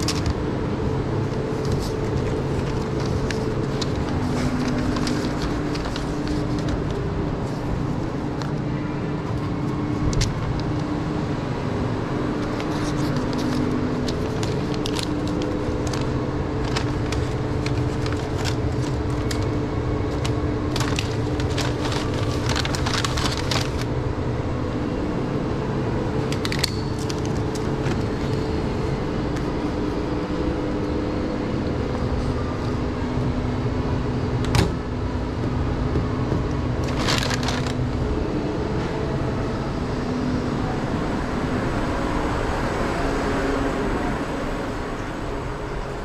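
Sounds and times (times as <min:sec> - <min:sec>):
kitchen machinery humming: 0:00.0 - 0:40.8.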